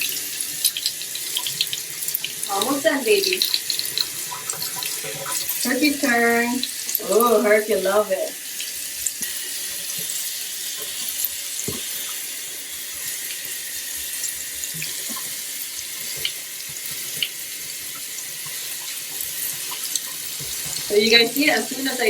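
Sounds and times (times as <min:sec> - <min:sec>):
tap water running: 0:00.0 - 0:22.0.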